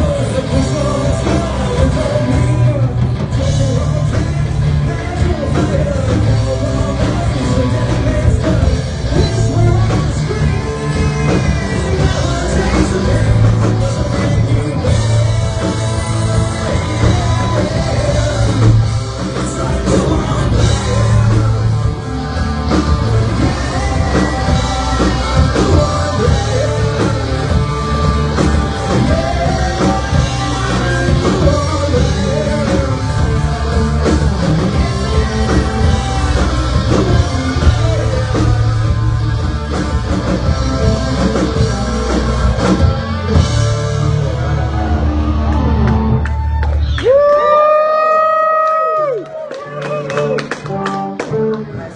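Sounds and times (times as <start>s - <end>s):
live rock band playing: 0.0s - 51.9s
person singing: 0.0s - 51.9s.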